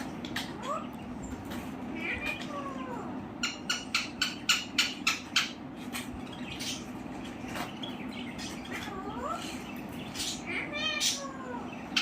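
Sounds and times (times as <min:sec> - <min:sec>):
parakeet squawking: 0:00.0 - 0:12.0.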